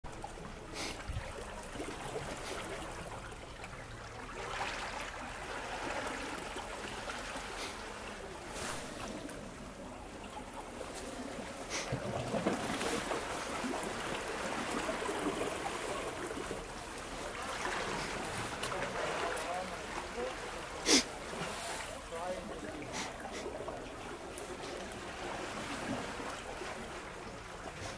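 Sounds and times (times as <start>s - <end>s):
small water splashes: 0.0s - 27.9s
waves lapping against rocks: 0.0s - 27.9s.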